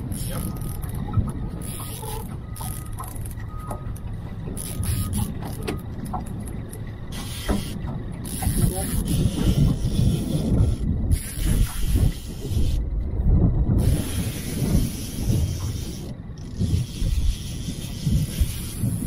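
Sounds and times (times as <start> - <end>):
fishing reel gears whirring: 0.0 - 5.8, 6.7 - 12.8, 13.8 - 19.0
wind rumbling on microphone: 0.0 - 19.0.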